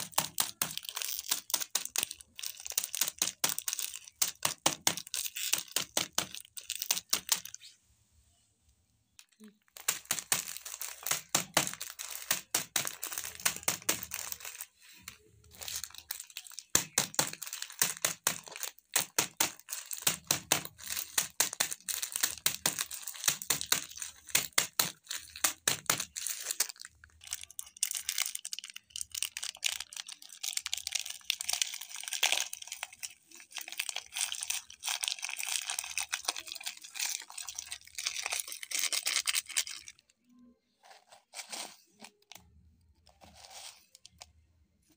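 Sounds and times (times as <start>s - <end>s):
plastic wrappers crinkling: 0.0s - 7.8s, 9.1s - 44.4s.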